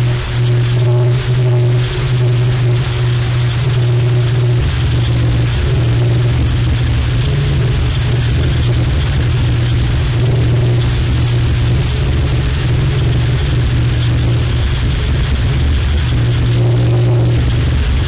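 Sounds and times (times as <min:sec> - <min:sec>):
distorted drone: 0:00.0 - 0:18.0.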